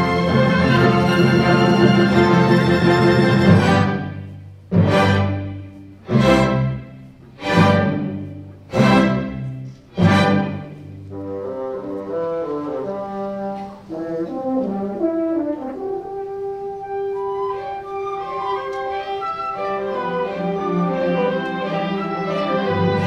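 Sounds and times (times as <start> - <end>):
orchestral background music: 0.0 - 23.0.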